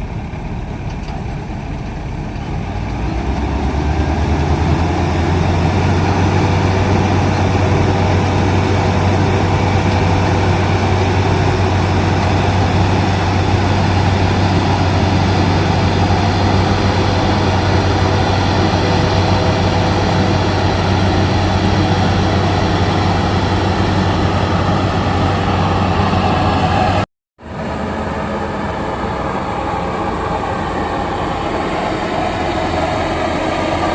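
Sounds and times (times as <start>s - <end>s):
combine harvester engine drone: 0.0s - 33.9s
constant mechanical whine: 0.0s - 33.9s.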